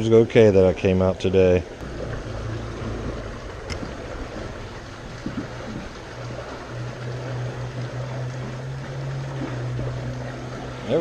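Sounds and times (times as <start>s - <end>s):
low motor hum: 0.0s - 11.0s
rushing water: 0.0s - 11.0s.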